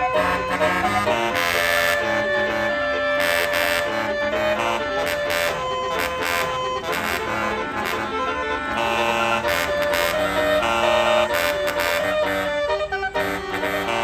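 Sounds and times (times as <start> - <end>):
bus horn playing a tune: 0.0 - 14.0.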